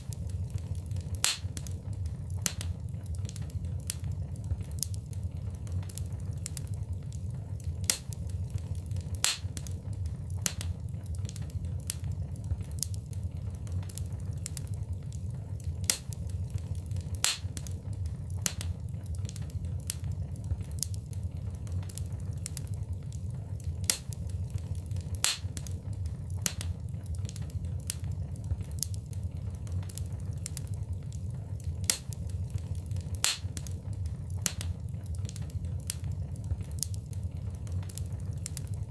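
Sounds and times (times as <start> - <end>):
low rush of flames: 0.0 - 38.9
wood fire crackling and popping: 0.0 - 38.9.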